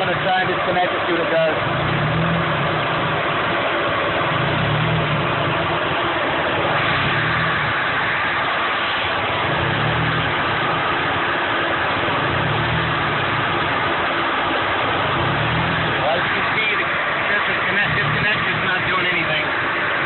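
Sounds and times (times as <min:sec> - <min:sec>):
car engine idling rough: 0:00.0 - 0:20.0.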